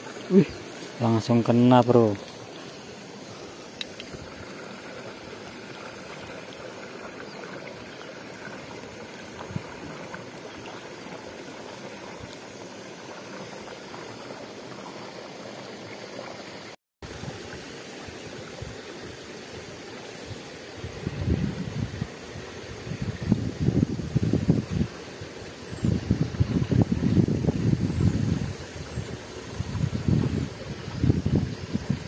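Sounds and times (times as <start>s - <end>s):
water rushing in channel: 0.0s - 32.0s.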